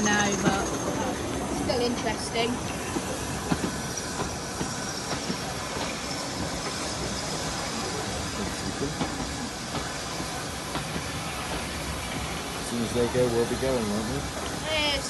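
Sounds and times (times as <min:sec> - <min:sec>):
train hiss and rumble: 0:00.0 - 0:15.0.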